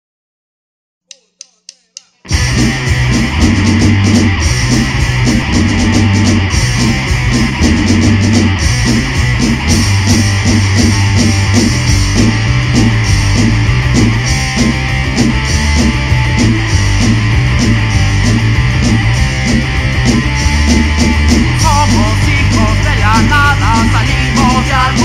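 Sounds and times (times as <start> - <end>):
punk rock band playing: 2.2 - 25.0.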